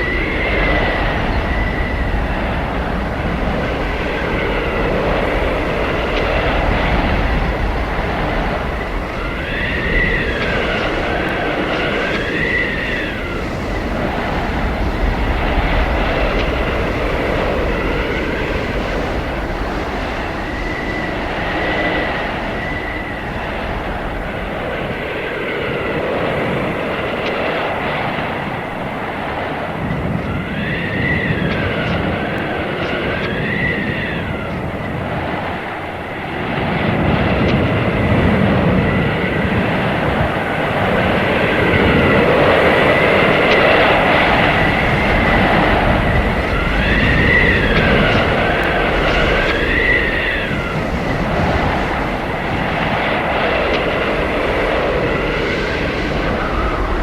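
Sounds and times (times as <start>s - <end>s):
whistling tone: 0.0s - 36.4s, 37.4s - 57.0s
howling blizzard wind: 0.0s - 57.0s.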